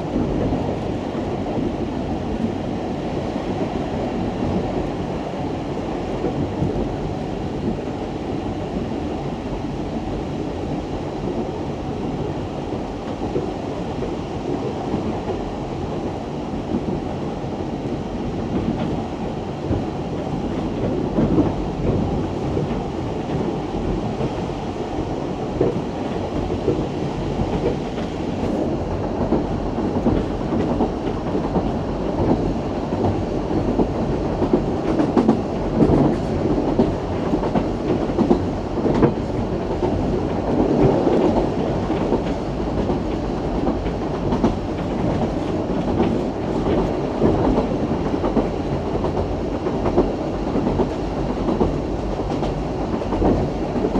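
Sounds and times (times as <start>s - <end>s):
train knocks and rattles: 0.0s - 53.9s
train wheels rumbling on track: 0.0s - 53.9s.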